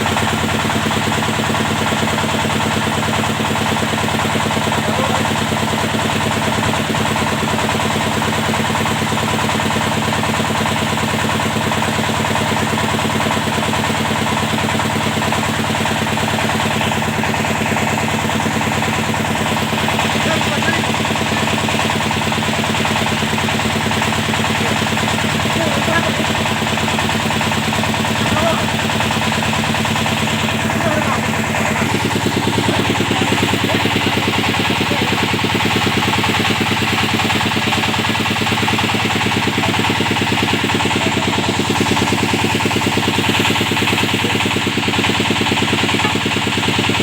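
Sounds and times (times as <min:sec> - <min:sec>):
drilling rig engine running: 0:00.0 - 0:47.0.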